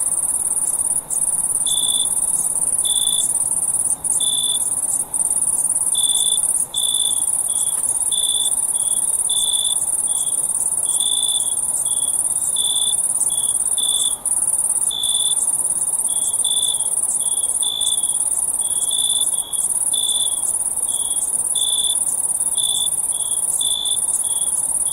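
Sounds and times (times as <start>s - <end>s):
crickets trilling: 0.0s - 24.9s
lower cricket chirp: 0.0s - 24.9s.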